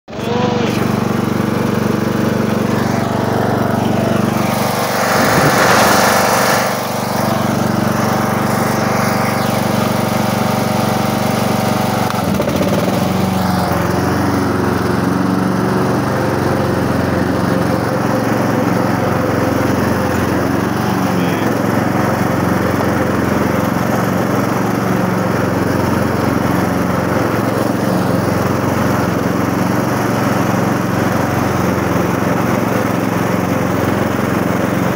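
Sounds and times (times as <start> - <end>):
lawn tractor engine running: 0.1 - 34.9.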